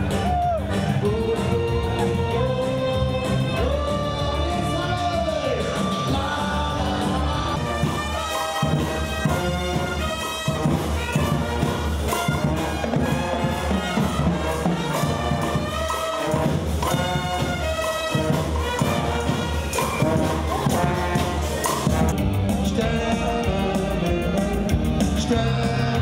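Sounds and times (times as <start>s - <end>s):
steady drumbeat: 0.0s - 26.0s
brass horns holding notes: 1.1s - 22.2s.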